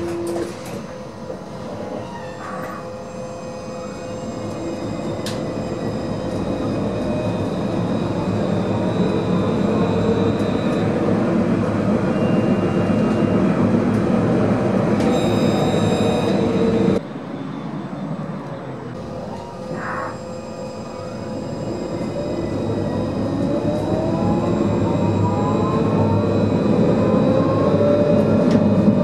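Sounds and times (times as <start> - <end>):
train motor whine: 0.0 - 14.1, 15.0 - 17.0, 19.0 - 29.0
metro train running noise: 0.0 - 29.0.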